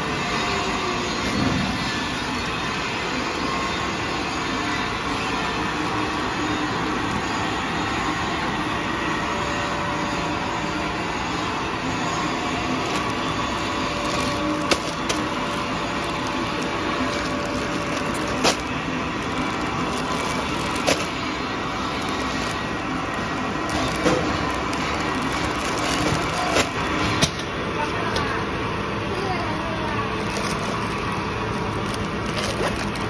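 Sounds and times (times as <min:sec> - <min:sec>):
production machinery running: 0:00.0 - 0:33.0.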